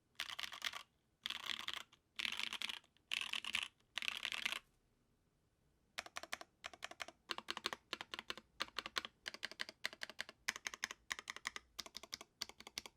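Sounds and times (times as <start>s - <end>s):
mechanical keyboard typing: 0.2s - 4.6s, 6.0s - 12.9s.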